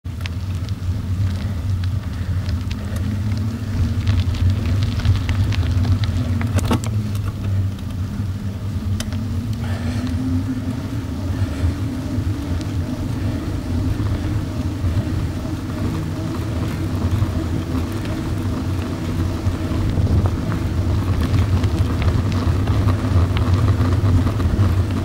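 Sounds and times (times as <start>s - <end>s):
stones ticking under tyres: 0.0s - 25.0s
tyre rumble on gravel: 0.1s - 8.0s, 12.4s - 25.0s
car engine hum: 0.1s - 25.0s.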